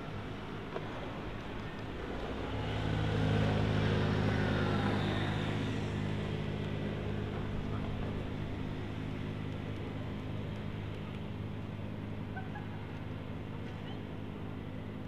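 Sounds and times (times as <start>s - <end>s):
passing engine hum: 0.0s - 15.0s.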